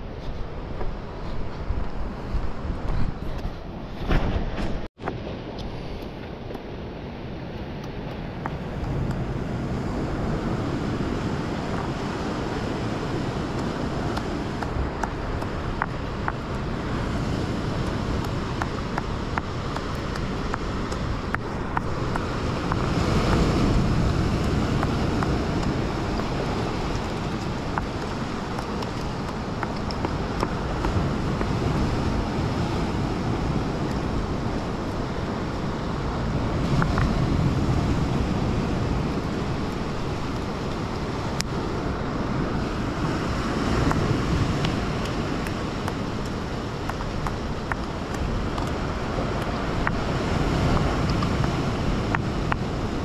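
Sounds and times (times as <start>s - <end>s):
wind buffeting microphone: 0.0s - 53.0s
ocean surf breaking on rocks: 4.0s - 53.0s.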